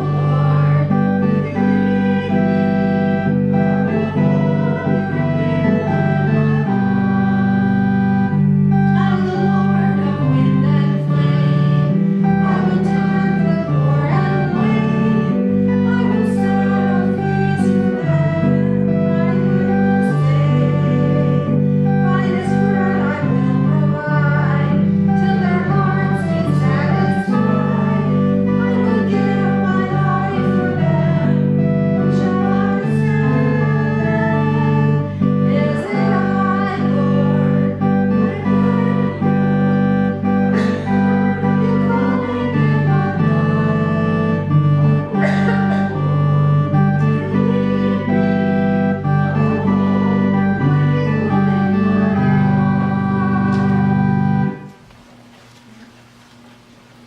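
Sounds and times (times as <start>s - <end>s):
church organ playing a hymn: 0.0s - 55.3s.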